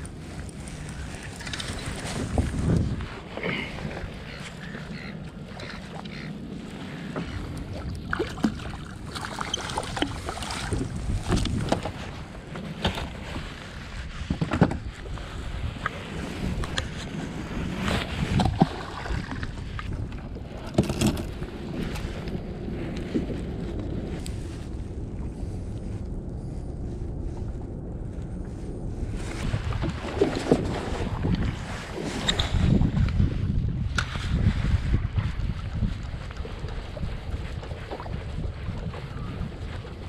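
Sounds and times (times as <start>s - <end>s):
wind on microphone: 0.0s - 40.0s.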